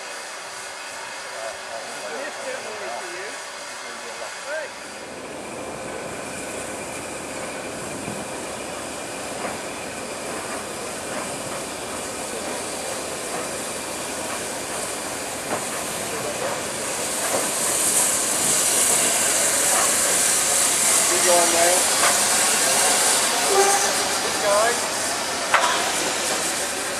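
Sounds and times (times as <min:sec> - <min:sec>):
steam hissing: 0:00.0 - 0:26.9
steam locomotive running: 0:00.0 - 0:26.9.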